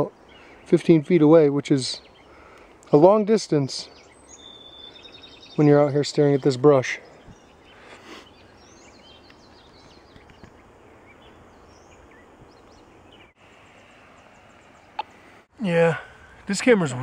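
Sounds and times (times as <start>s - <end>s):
distant bird chirps: 0.0s - 17.0s
steady low hiss: 0.0s - 17.0s.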